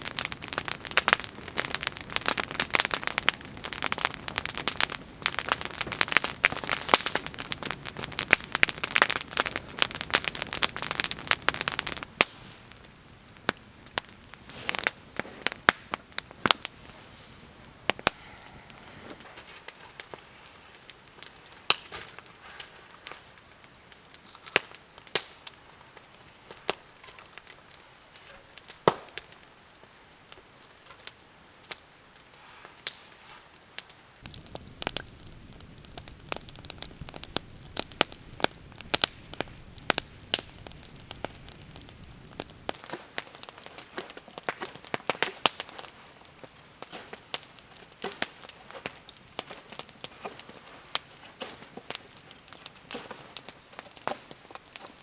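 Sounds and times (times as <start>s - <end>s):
low rumble of fire: 0.0s - 27.8s, 33.8s - 55.0s
wood fire crackling and popping: 0.0s - 55.0s.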